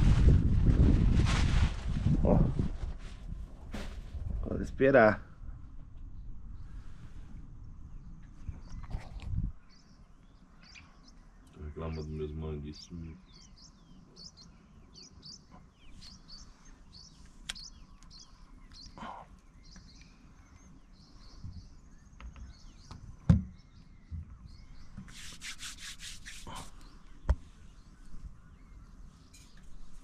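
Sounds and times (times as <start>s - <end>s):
small birds chirping: 4.5s - 30.0s.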